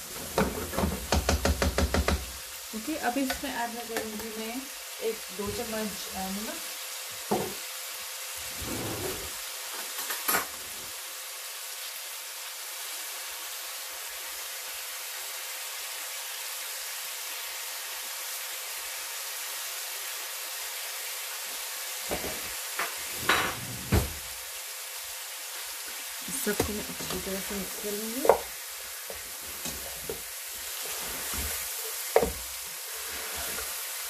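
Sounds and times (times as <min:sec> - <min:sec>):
meat sizzling in a hot pan: 0:00.0 - 0:34.0.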